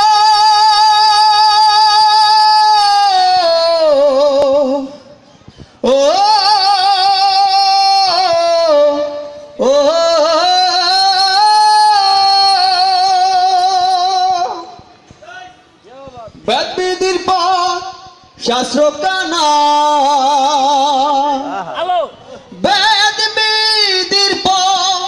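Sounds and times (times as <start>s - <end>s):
man singing into a microphone: 0.0s - 5.2s, 5.8s - 15.0s, 16.4s - 25.0s.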